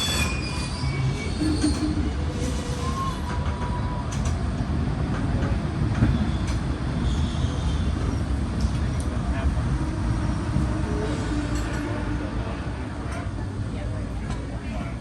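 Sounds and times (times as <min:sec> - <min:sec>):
tram rumbling on track: 0:00.0 - 0:15.0
tram clicks: 0:01.4 - 0:09.4, 0:10.5 - 0:15.0.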